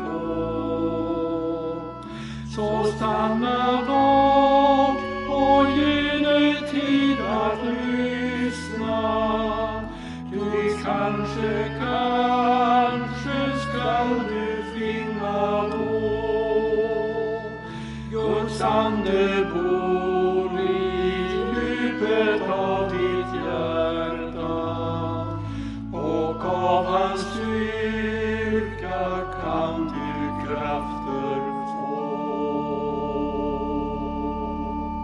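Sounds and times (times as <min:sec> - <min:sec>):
low sustained accompaniment: 0:00.0 - 0:35.0
voices singing a hymn: 0:00.0 - 0:35.0.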